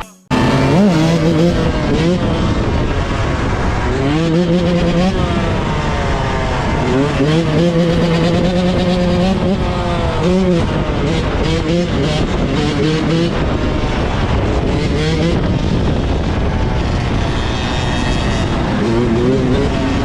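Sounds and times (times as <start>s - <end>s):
vehicle engine revving: 0.3s - 20.0s.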